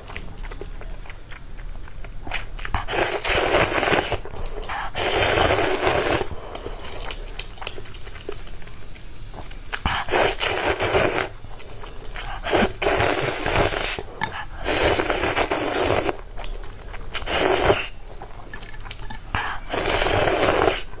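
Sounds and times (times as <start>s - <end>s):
chewing: 0.0s - 21.0s
noodles being slurped: 2.2s - 8.3s, 9.5s - 21.0s.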